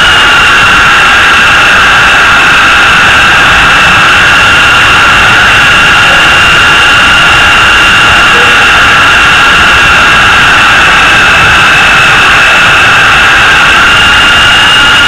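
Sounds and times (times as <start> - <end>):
toy helicopter rotors whining: 0.0 - 15.0.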